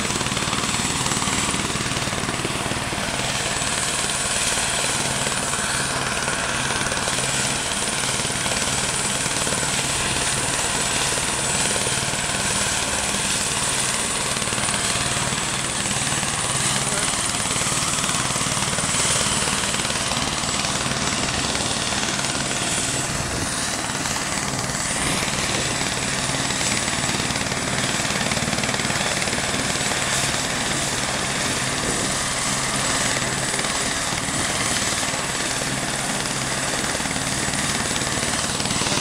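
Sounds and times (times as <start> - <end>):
helicopter rotor and turbine drone: 0.0 - 39.0.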